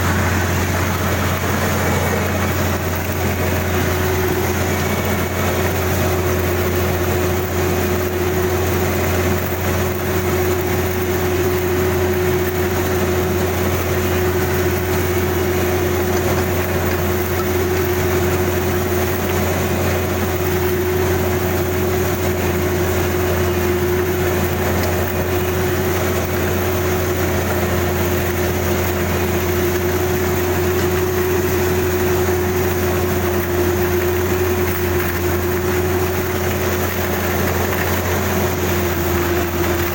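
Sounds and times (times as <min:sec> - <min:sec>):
combine harvester engine drone: 0:00.0 - 0:39.9
machine whine: 0:00.0 - 0:39.9.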